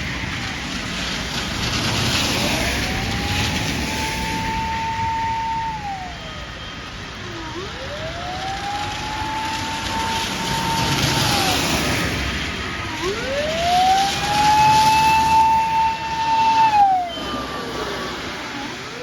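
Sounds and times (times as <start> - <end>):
mechanical motor siren wailing: 1.8 - 19.0.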